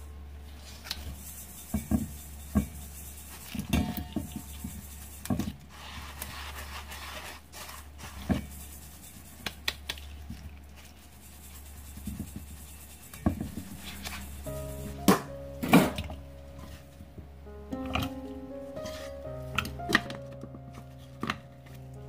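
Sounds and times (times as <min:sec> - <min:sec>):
flour rubbed through metal sieve: 0:00.5 - 0:17.0, 0:18.2 - 0:20.2.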